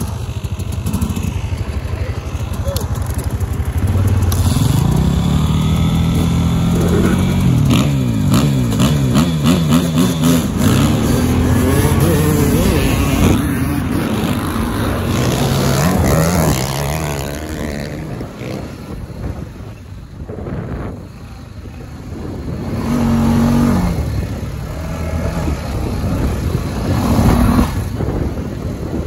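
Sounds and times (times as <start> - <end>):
dirt bike engines at full throttle: 0.0 - 29.0.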